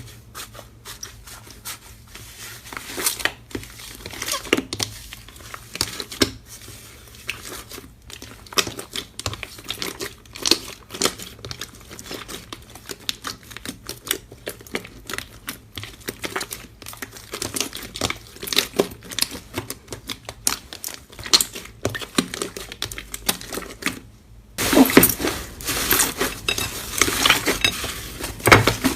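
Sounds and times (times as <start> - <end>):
slime squishing by hand: 0.0 - 28.9.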